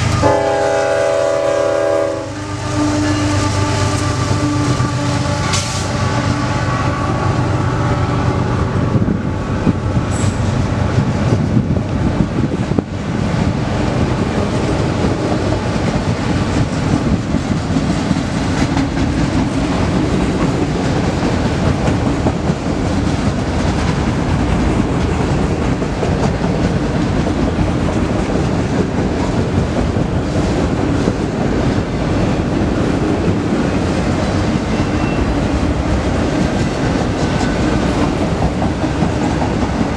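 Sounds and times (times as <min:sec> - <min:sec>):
diesel locomotive engine: 0:00.0 - 0:39.9
train wheels rumbling on rails: 0:00.0 - 0:39.9
clickety-clack over rail joints: 0:03.4 - 0:39.9.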